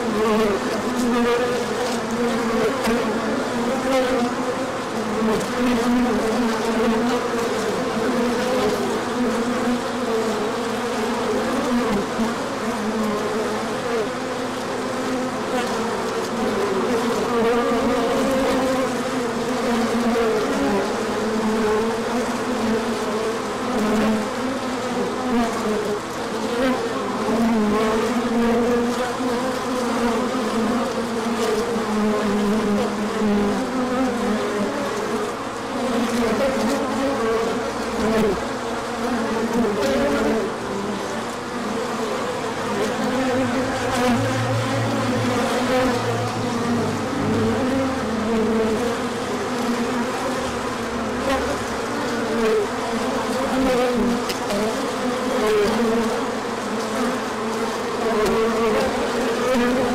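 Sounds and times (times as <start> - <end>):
honey bees buzzing: 0.0 - 59.9.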